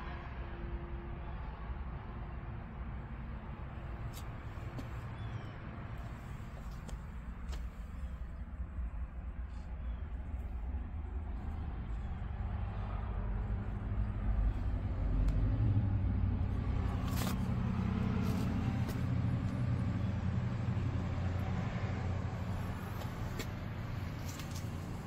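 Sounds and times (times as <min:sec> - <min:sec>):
car engine idling: 0:02.9 - 0:25.0.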